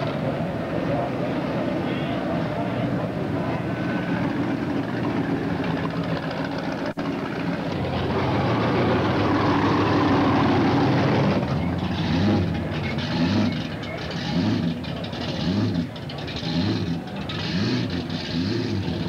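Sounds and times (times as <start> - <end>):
car engines driving past: 0.0 - 19.0.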